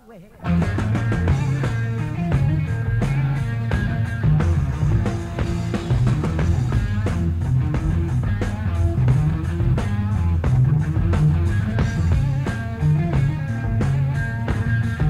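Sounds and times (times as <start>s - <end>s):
electric guitar: 0.0s - 15.0s
bass guitar: 0.4s - 15.0s
drum kit: 0.4s - 15.0s.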